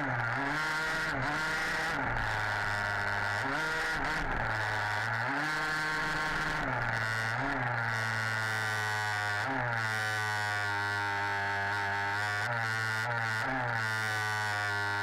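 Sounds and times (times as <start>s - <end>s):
two-stroke engine buzzing: 0.0s - 15.0s.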